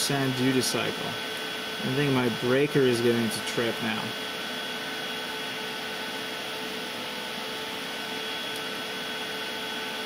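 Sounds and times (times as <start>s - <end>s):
charger cooling fan whine: 0.0s - 10.0s.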